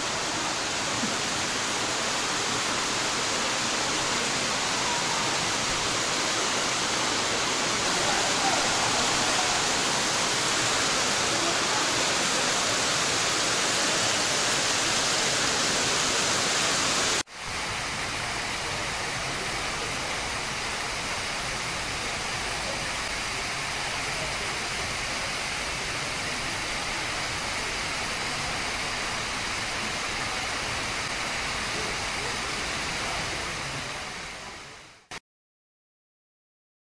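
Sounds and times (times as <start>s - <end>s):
waterfall rushing: 0.0s - 35.1s.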